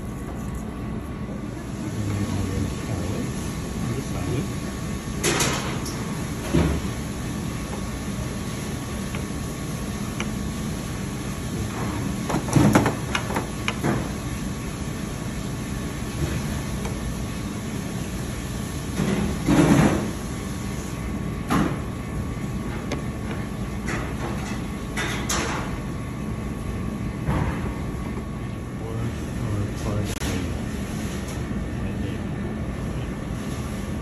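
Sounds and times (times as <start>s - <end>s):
kitchen background hum: 0.0s - 34.0s.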